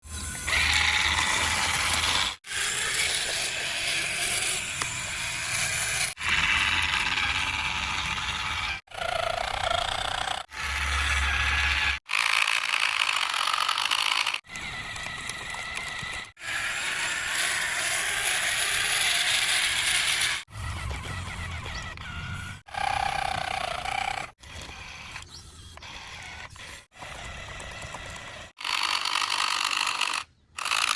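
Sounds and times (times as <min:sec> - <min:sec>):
toy motors whirring and clattering: 0:00.0 - 0:30.9.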